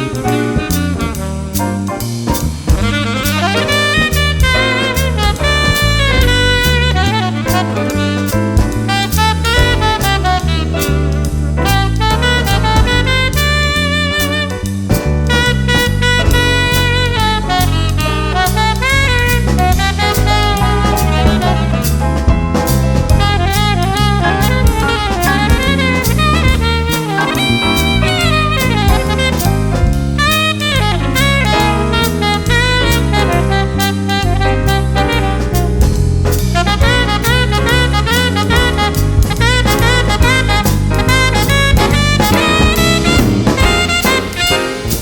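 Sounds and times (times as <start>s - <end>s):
jazz band playing: 0.0s - 45.0s
wind instrument solo: 0.0s - 45.0s.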